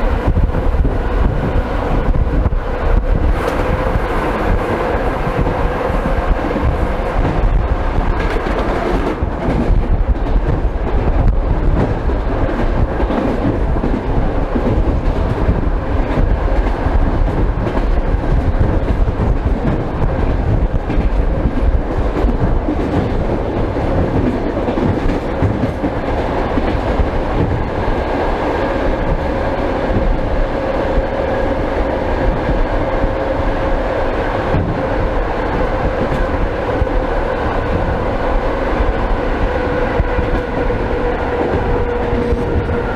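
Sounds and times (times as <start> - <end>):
train running rush: 0.0 - 42.9
train wheels clattering on rails: 0.0 - 42.9.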